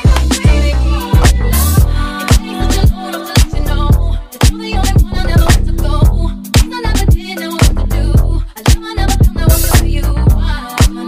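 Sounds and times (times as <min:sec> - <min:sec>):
sustained bass line: 0:00.0 - 0:03.0, 0:03.6 - 0:04.2, 0:04.8 - 0:10.6.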